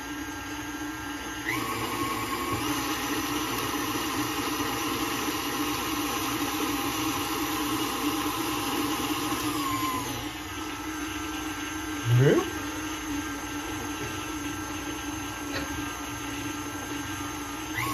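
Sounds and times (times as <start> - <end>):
stand mixer running: 0.0 - 17.9.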